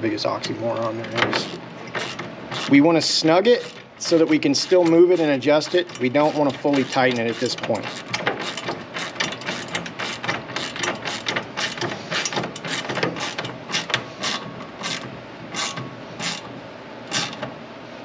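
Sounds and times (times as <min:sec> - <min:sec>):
hand ratchet clicking: 0:01.4 - 0:02.8, 0:03.6 - 0:16.5, 0:17.1 - 0:17.5.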